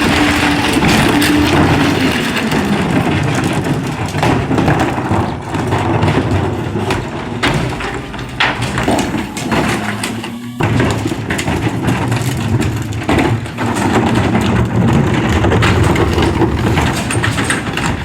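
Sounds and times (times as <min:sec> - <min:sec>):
garbage truck engine and packer: 0:00.0 - 0:18.0
sharp cracks and knocks: 0:00.0 - 0:18.0.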